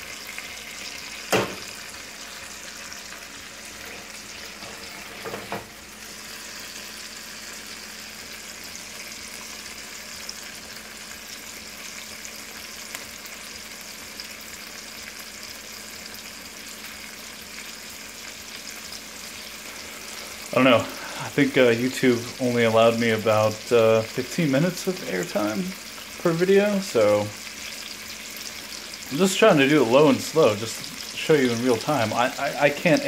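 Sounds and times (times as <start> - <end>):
chicken sizzling in frying pan: 0.0 - 33.0.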